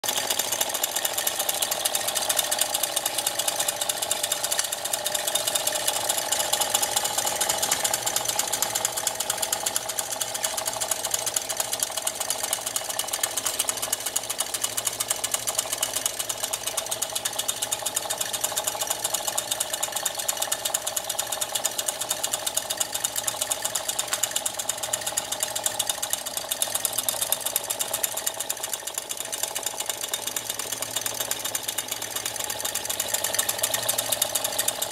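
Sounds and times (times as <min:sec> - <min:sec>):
toy steam engine running: 0:00.0 - 0:34.9.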